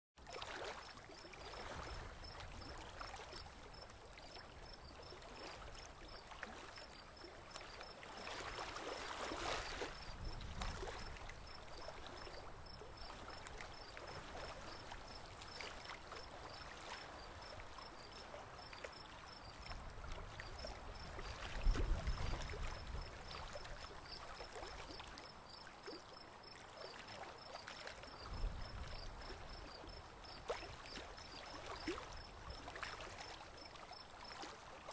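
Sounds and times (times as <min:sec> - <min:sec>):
water lapping along boat hull: 0:00.2 - 0:34.9.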